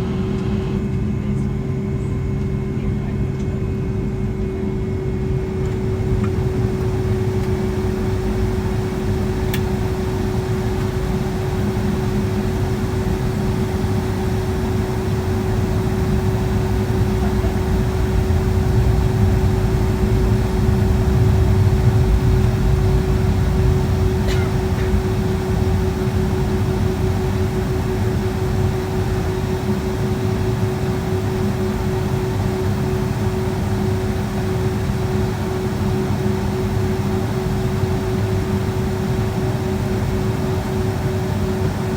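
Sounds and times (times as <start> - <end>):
aircraft cabin engine rumble: 0.0 - 41.9.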